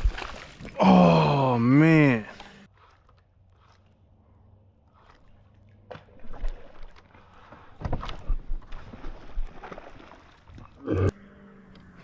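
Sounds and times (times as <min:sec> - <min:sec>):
water sloshing and splashing: 0:00.0 - 0:00.8, 0:02.3 - 0:11.1.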